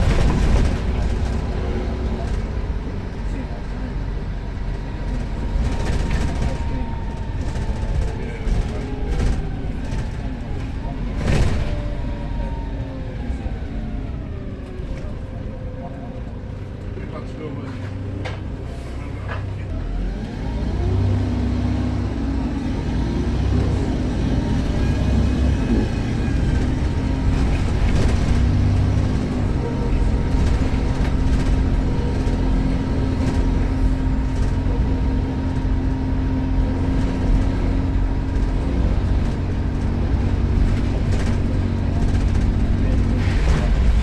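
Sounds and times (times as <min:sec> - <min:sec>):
bus diesel engine droning: 0:00.0 - 0:44.0.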